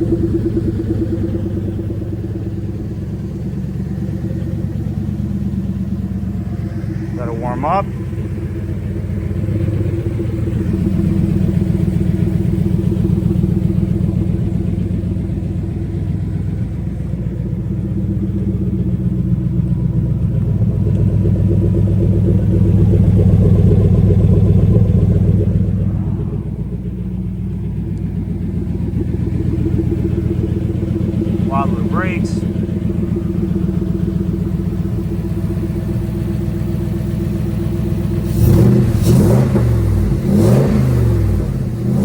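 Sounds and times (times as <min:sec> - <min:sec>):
car engine warming up: 0:00.0 - 0:42.0.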